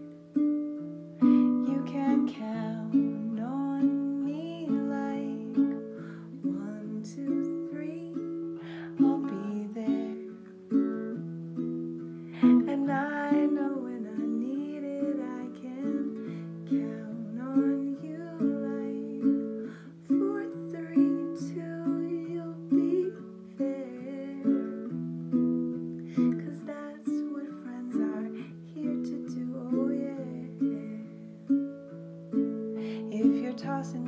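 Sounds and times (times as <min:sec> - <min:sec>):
ukulele strummed chords: 0:00.0 - 0:34.0
woman singing: 0:01.2 - 0:11.2, 0:12.3 - 0:25.0, 0:26.0 - 0:31.8, 0:32.7 - 0:34.0.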